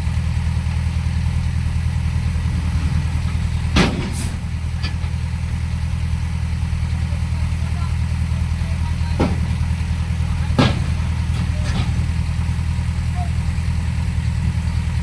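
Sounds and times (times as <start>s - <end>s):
heavy diesel engine idling: 0.0s - 15.0s.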